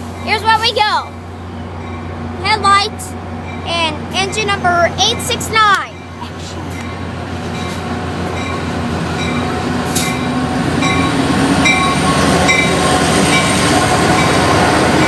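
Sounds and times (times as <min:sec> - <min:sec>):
diesel locomotive engine: 0:00.0 - 0:15.0.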